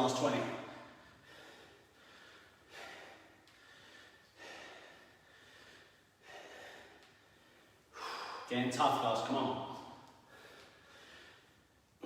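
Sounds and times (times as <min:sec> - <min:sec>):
man breathing hard: 0:00.6 - 0:08.5, 0:09.8 - 0:11.8
sharp breaths: 0:00.6 - 0:08.5, 0:09.8 - 0:11.8.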